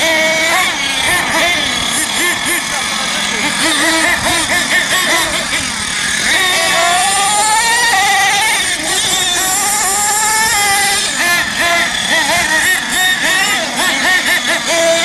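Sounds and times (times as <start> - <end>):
nitro engine revving: 0.0 - 15.0.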